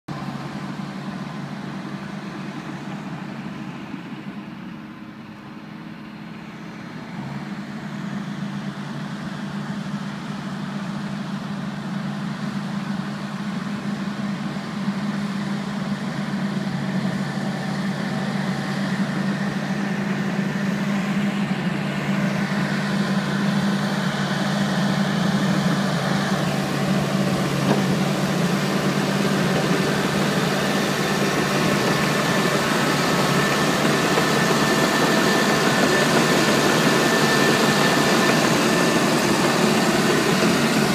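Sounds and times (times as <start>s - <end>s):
dozer diesel engine running: 0.1s - 40.9s.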